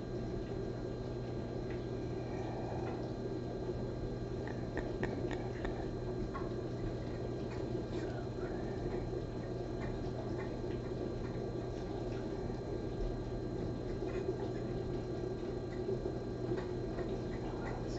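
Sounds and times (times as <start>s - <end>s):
steady low hum: 0.0s - 17.9s
faint ticks and clicks: 0.1s - 17.9s.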